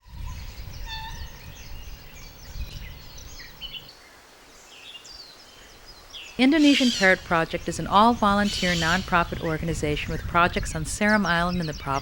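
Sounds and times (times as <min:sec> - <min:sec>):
birds calling and chirping: 0:00.0 - 0:12.0.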